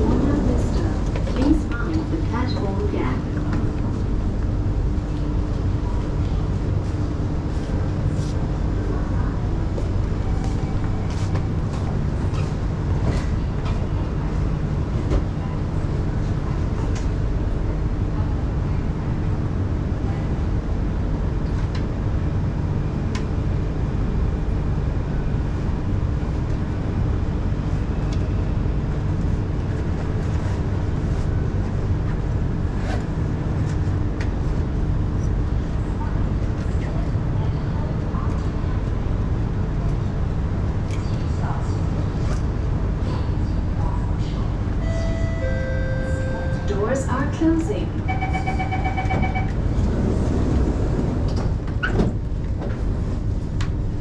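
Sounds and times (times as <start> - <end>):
train air-conditioning hum: 0.0 - 54.0.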